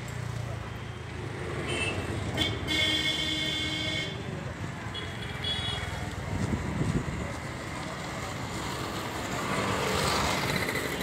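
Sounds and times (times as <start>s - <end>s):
roadside traffic noise: 0.0s - 11.0s.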